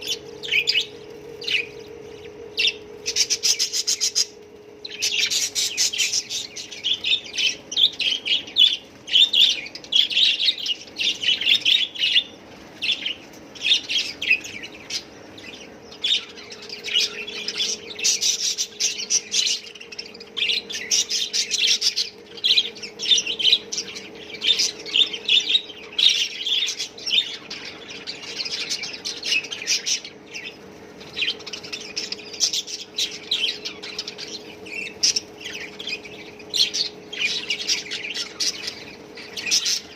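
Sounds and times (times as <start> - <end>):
bird squawks: 0.0 - 39.9
budgerigars chirping and chattering: 0.0 - 39.9
faint steady hum: 0.0 - 39.9.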